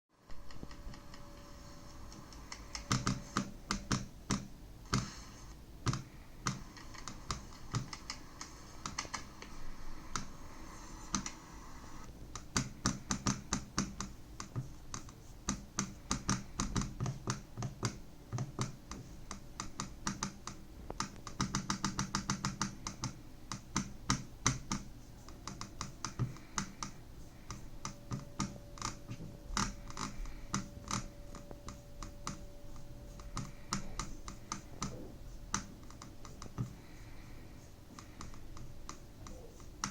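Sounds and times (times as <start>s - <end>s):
laptop touchpad clicking: 0.3s - 11.4s, 12.3s - 37.3s, 38.0s - 39.9s.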